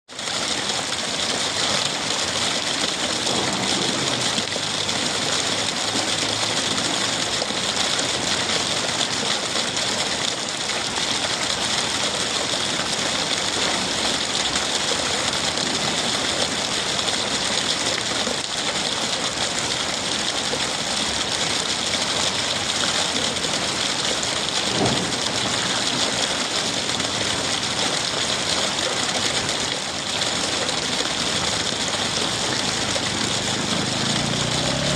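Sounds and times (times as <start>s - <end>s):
rainwater trickling from gutter: 0.1s - 34.9s
water splash: 0.1s - 34.9s.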